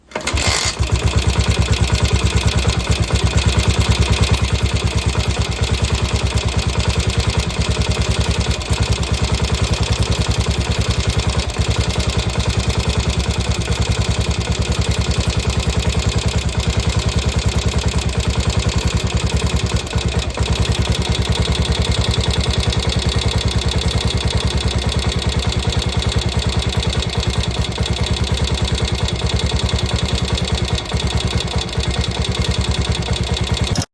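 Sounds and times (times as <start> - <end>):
motorcycle engine idling: 0.7 - 33.8.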